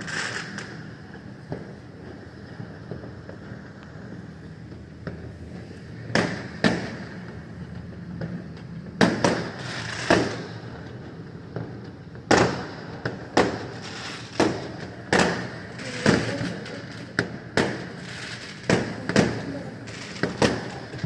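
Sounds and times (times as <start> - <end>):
fireworks banging: 0.0 - 21.0.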